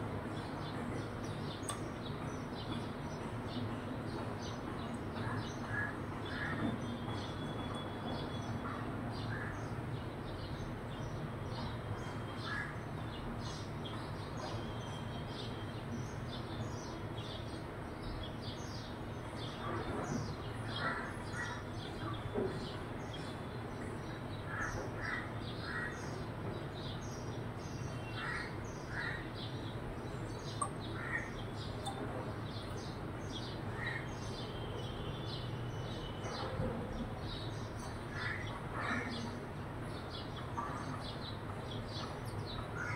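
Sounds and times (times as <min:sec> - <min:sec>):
sparrows chirping: 0:00.1 - 0:42.9.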